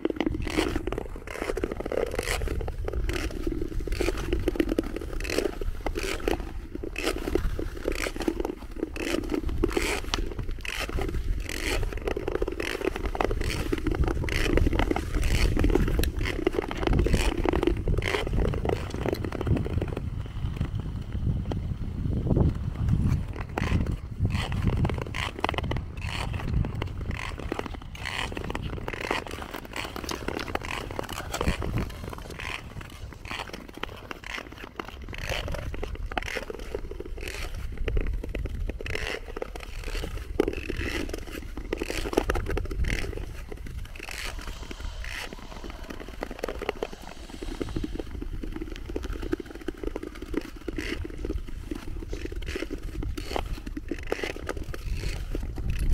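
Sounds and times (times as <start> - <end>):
ice skate blades scraping ice: 0.0 - 21.2, 22.4 - 55.9.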